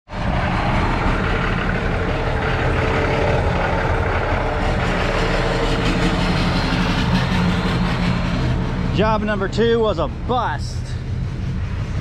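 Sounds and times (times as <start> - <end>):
truck diesel engine idling: 0.1 - 12.0.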